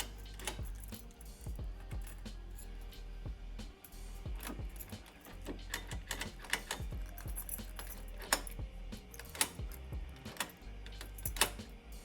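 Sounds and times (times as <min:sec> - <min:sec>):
metal lock parts clicking: 0:00.0 - 0:02.8, 0:03.9 - 0:12.0
low steady hum: 0:00.0 - 0:12.0.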